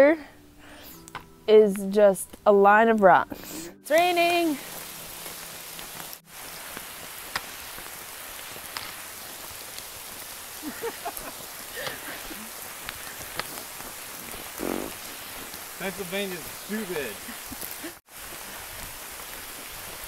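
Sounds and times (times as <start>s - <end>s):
steady rain falling: 3.8s - 20.0s.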